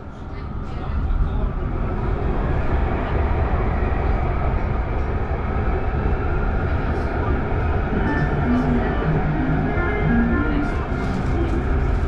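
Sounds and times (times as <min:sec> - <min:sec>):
tram wheels rumbling on rail: 0:00.0 - 0:12.0.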